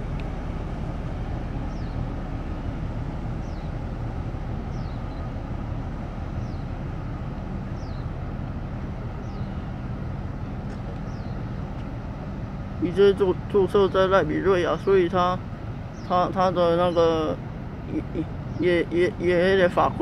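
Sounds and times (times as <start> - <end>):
ship low rumble: 0.0 - 20.0.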